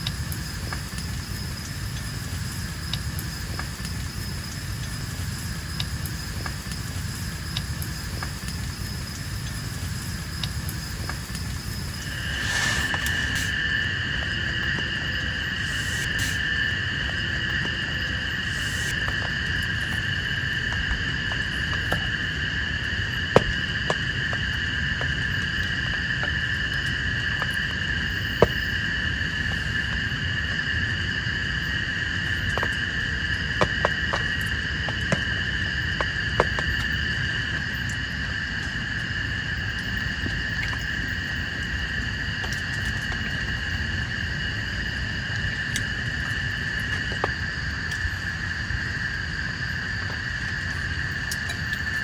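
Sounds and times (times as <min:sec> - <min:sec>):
water drips ticking: 0:00.0 - 0:30.0, 0:32.2 - 0:52.0
insect chorus: 0:00.0 - 0:52.0
steady rain: 0:00.0 - 0:52.0.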